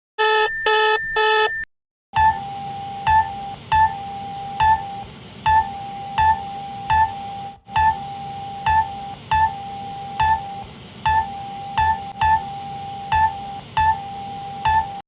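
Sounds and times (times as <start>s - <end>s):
held electronic alarm tone: 0.2s - 15.0s
high alarm beeps with thump: 0.2s - 15.0s.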